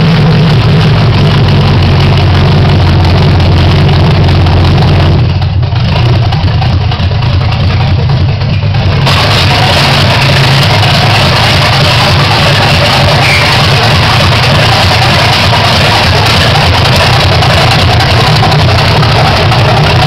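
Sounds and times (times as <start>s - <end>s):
engine idle rumble: 0.0s - 20.0s.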